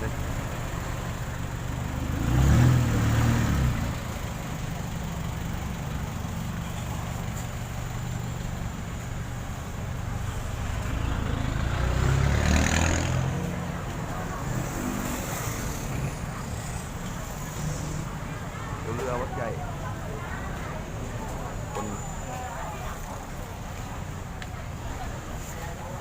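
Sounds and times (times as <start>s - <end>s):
motor vehicles passing: 0.0s - 26.0s
steady engine hum: 0.0s - 26.0s.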